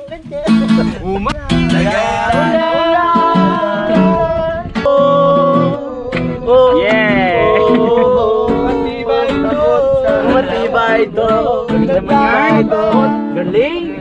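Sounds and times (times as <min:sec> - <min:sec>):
strummed acoustic guitar: 0:00.0 - 0:14.0
voices singing: 0:00.0 - 0:14.0.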